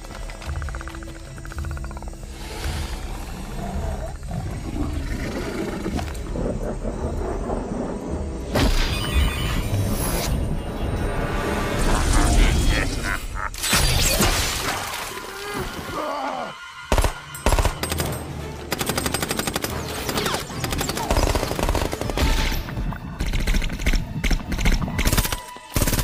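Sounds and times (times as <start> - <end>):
film score music: 0.0 - 26.0.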